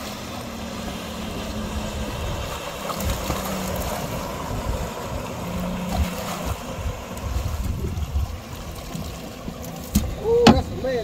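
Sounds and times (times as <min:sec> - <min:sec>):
low hum: 0:00.0 - 0:11.0
water splashing against boat: 0:00.0 - 0:11.0
wind rumbling on microphone: 0:00.0 - 0:11.0.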